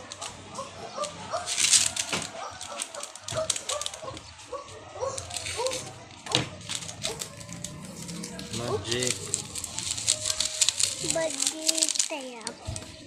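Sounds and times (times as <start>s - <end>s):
loud rustle: 1.4s - 4.5s, 5.2s - 13.0s.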